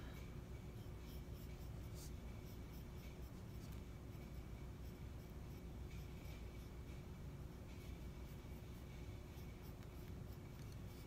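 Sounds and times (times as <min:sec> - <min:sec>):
pencil scratching on paper: 0:00.6 - 0:11.0.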